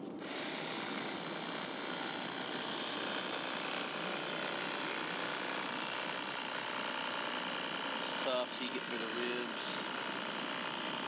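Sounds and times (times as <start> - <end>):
electric fillet knife running: 0.2 - 11.0.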